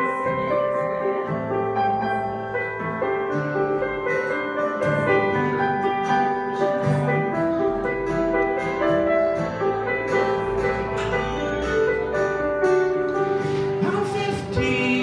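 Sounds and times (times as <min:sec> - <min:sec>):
acoustic guitar: 0:00.0 - 0:15.0
piano keyboard chords: 0:00.0 - 0:15.0.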